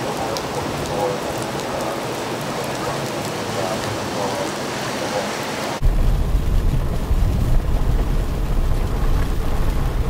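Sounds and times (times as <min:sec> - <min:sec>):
heavy rain on a street: 0:00.0 - 0:10.0
rain rumble inside a car: 0:00.0 - 0:10.0.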